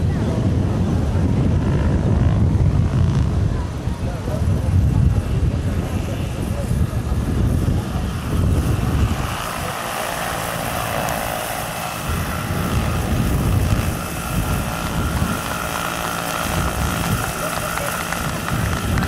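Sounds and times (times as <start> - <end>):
model helicopter rotors beating: 0.0 - 19.0.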